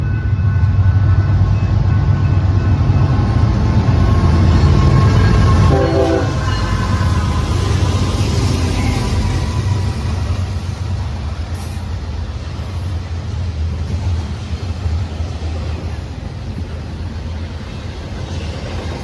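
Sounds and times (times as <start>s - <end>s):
diesel locomotive engine rumble: 0.0s - 19.0s
rail noise: 0.0s - 19.0s.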